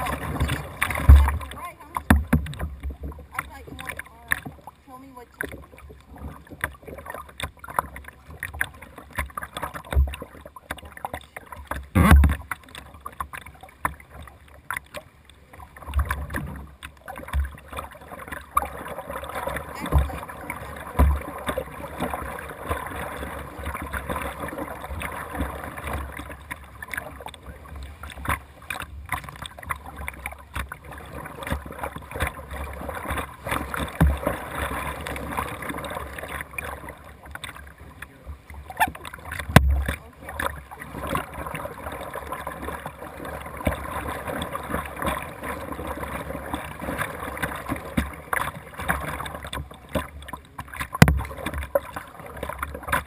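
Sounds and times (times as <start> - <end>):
paddle strokes splashing: 0.0 - 53.0
water washing along hull: 0.0 - 53.0.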